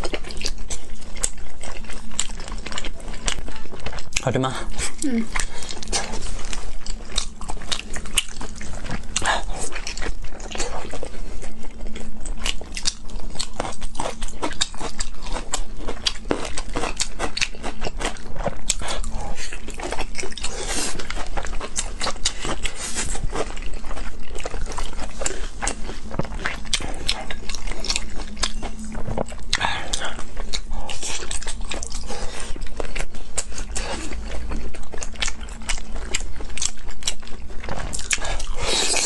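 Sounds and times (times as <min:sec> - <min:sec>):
wet chewing and lip smacking: 0:00.0 - 0:39.0.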